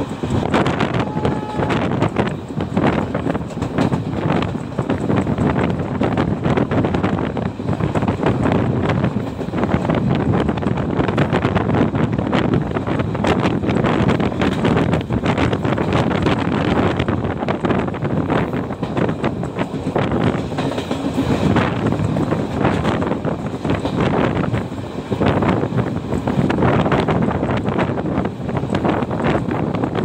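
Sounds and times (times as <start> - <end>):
train rattling at speed: 0.0 - 30.0
wind buffeting microphone: 0.0 - 30.0.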